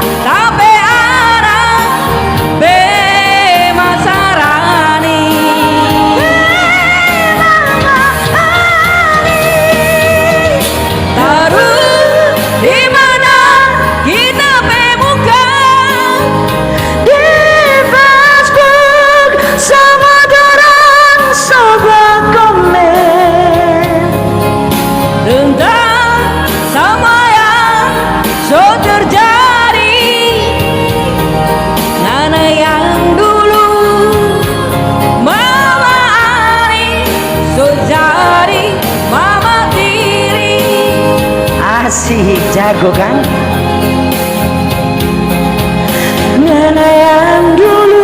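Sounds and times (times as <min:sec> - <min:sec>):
music accompaniment: 0:00.0 - 0:48.0
woman singing slow pop song: 0:00.0 - 0:48.0.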